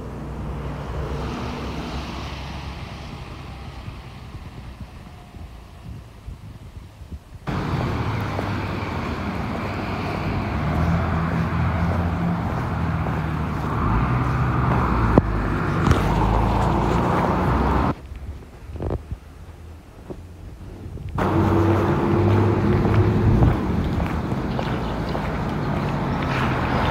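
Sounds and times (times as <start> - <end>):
road noise: 0.0 - 26.9
vehicle engine running: 2.6 - 26.9.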